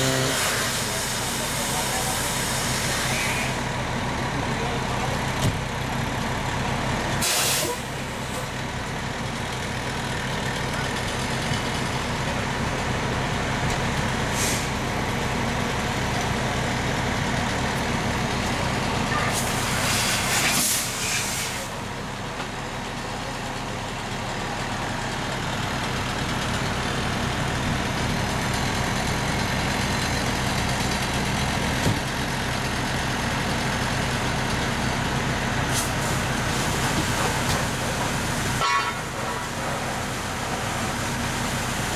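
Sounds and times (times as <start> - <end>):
fire engine motor humming: 0.0 - 41.9.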